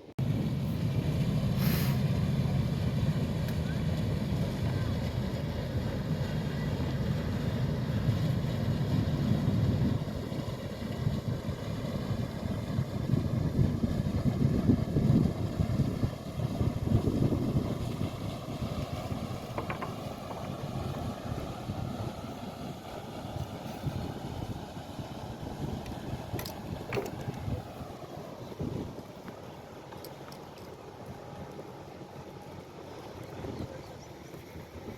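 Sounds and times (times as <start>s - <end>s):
motorboat engine rumble: 0.0s - 34.9s
wind gusting on microphone: 0.2s - 29.5s.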